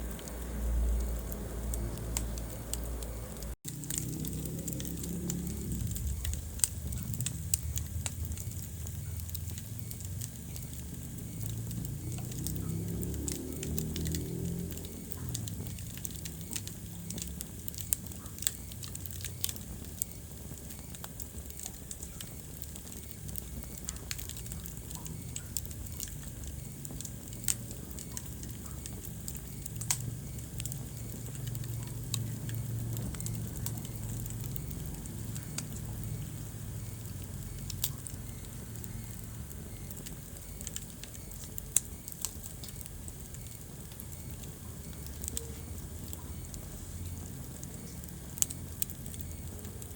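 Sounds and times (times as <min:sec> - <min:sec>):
flames rumbling: 0:00.0 - 0:49.9
wood fire crackling and popping: 0:00.0 - 0:49.9.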